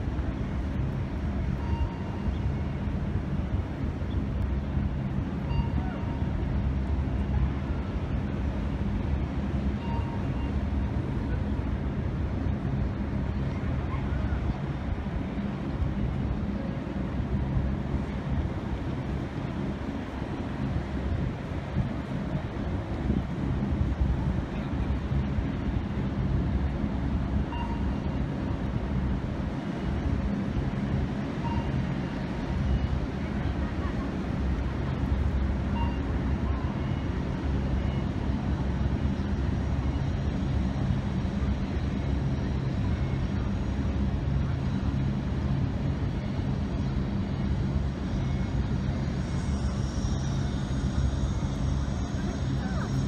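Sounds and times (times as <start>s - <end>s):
low outdoor background rumble: 0.0s - 53.0s.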